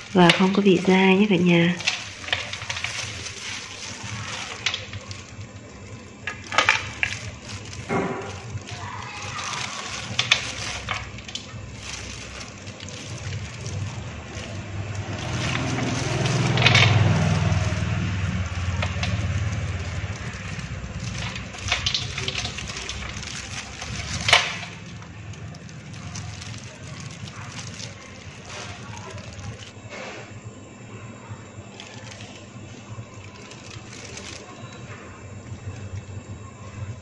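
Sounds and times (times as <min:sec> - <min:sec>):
plastic glove crackling: 0:00.0 - 0:30.0, 0:31.7 - 0:37.0
leaves rustling in a bowl: 0:00.0 - 0:30.4, 0:31.5 - 0:37.0
steady low hum: 0:00.0 - 0:37.0.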